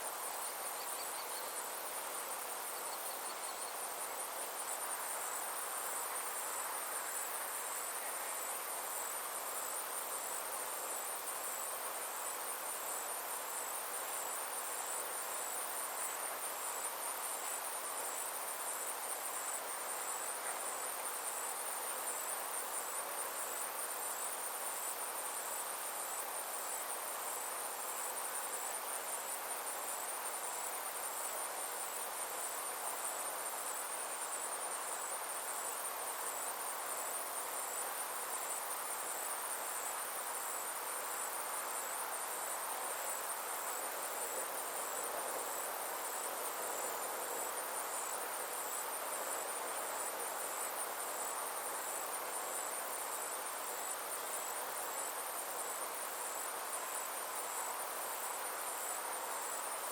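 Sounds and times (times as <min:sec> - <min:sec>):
insects trilling: 0:00.0 - 0:59.9
soft background hiss: 0:00.0 - 0:59.9.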